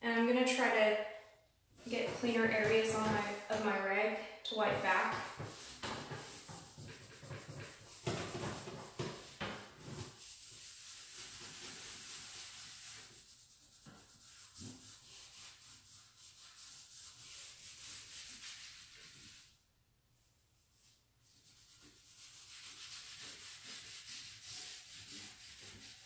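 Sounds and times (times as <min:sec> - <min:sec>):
cloth rag rubbing on wood: 0:01.8 - 0:03.6, 0:04.5 - 0:19.6, 0:20.6 - 0:26.0.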